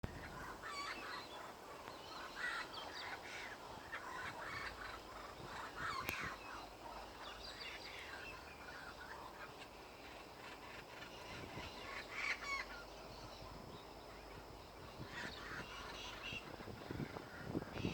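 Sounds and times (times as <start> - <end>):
birds calling: 0.1 - 17.9.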